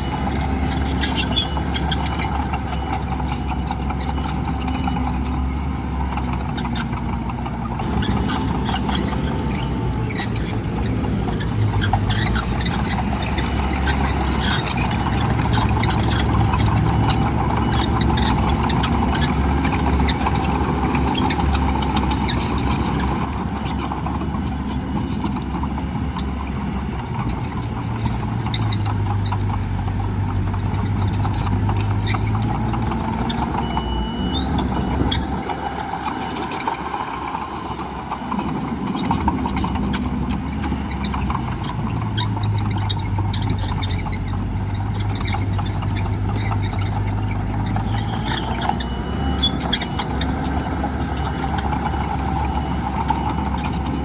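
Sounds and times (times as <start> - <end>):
heavy diesel machinery running: 0.0 - 54.0
small clicks and knocks: 6.1 - 54.0.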